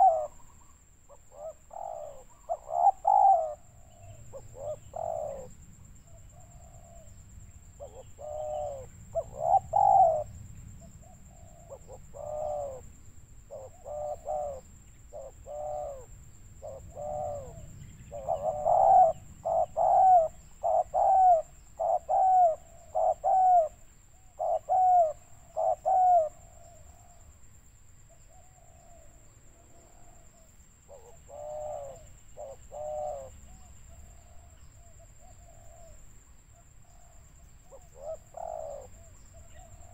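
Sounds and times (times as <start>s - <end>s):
doves cooing: 0.0s - 27.4s, 28.3s - 36.0s, 36.9s - 39.9s.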